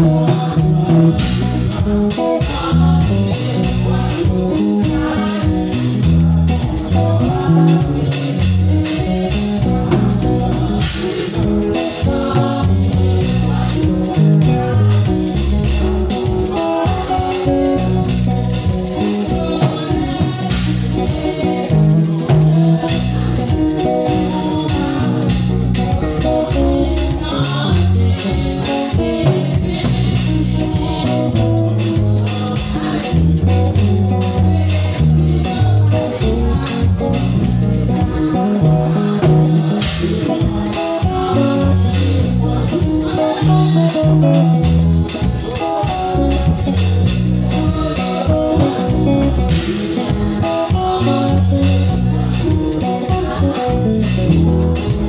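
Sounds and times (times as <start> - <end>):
drum kit with cymbals: 0.0 - 55.0
electric bass guitar: 0.0 - 55.0
keyboard playing: 0.0 - 55.0.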